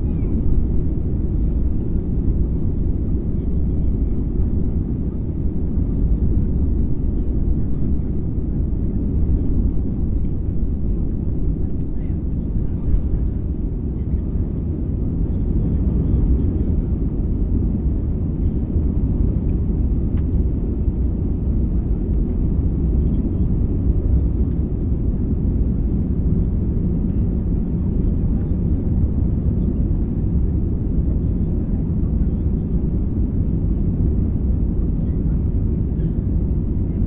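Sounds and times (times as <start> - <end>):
engine and airflow rumble: 0.0 - 37.0.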